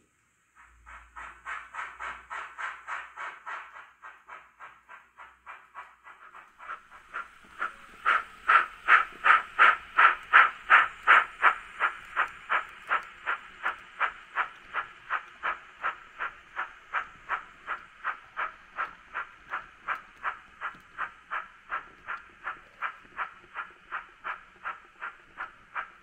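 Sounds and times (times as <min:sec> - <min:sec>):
faint steam hiss: 0:00.0 - 0:26.0
model steam train chuffing: 0:00.0 - 0:26.0.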